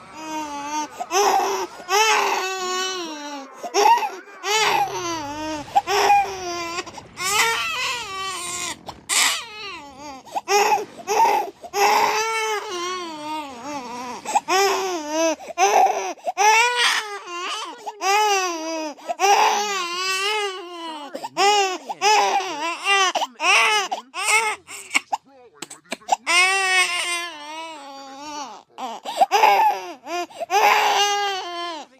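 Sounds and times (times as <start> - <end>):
baby crying loudly: 0.0 - 25.2, 26.0 - 31.9.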